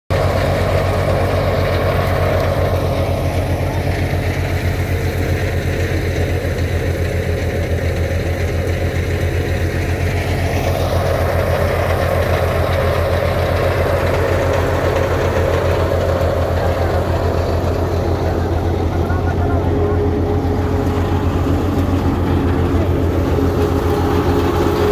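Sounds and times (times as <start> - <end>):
thresher drum churning straw: 0.1 - 24.9
tractor diesel engine running: 0.1 - 24.9.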